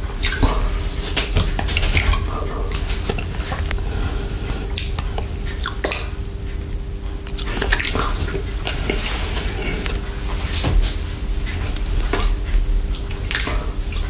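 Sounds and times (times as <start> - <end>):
wet squishing of cream: 0.2 - 14.0.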